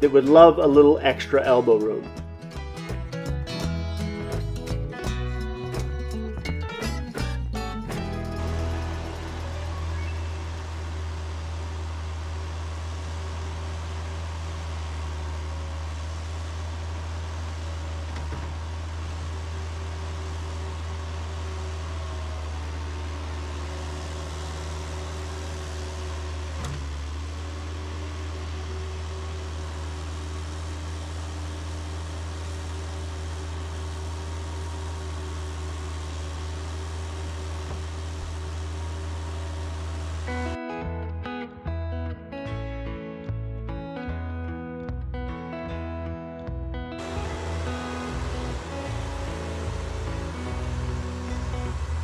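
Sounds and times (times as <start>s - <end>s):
loader engine running: 0.0s - 43.9s, 46.4s - 52.0s.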